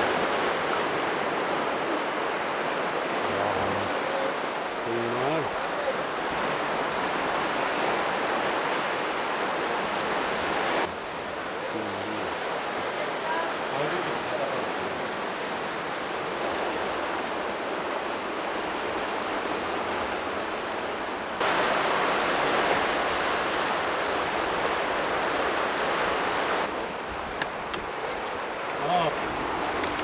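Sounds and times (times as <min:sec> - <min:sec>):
sea surf on rocky shore: 0:00.0 - 0:30.0.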